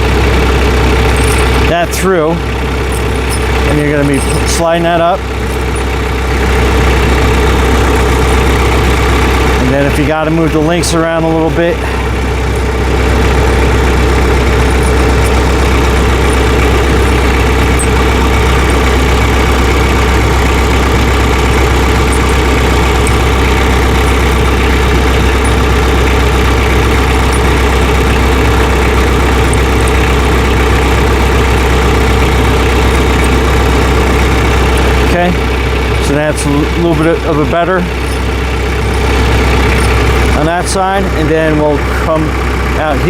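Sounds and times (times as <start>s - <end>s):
tractor engine idling: 0.0s - 43.0s.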